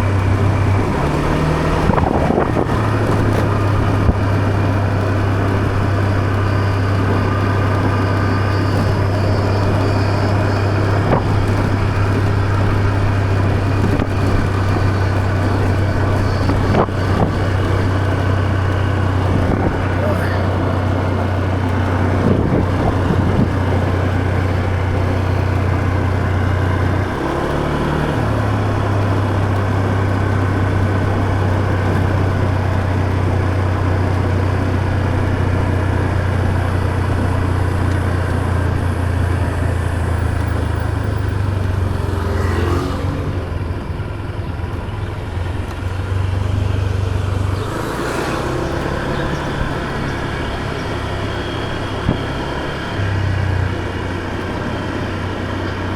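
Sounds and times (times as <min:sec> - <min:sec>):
motor scooter engine running: 0:00.0 - 0:55.9
wind and road noise: 0:00.0 - 0:55.9.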